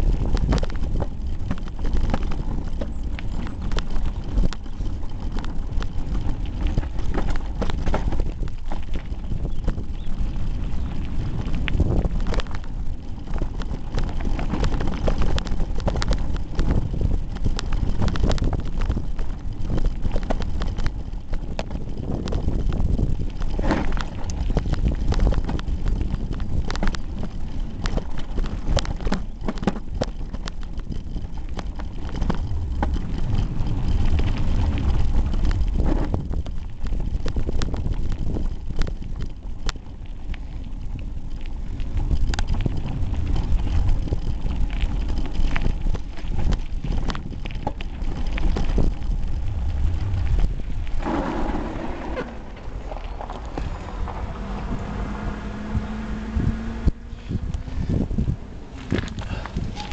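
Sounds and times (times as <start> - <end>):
mountain bike rattling on dirt trail: 0.0 - 59.9
wind and tyre rumble: 0.0 - 59.9.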